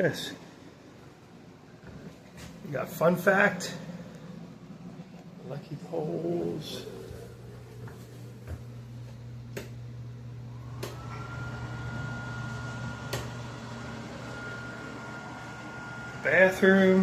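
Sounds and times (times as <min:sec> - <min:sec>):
low electrical hum of appliance: 0:00.0 - 0:17.0.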